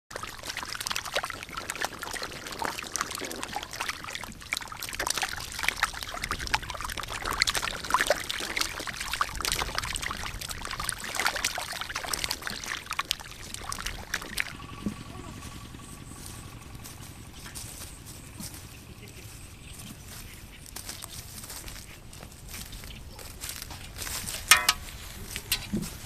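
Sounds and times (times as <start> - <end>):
fish splashing in shallow water: 0.1 - 26.0.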